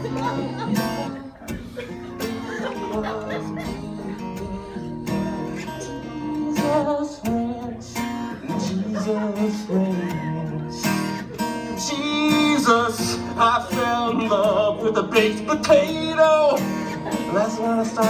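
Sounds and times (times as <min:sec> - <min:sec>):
acoustic guitar strumming: 0:00.0 - 0:18.0
person singing: 0:02.5 - 0:18.0.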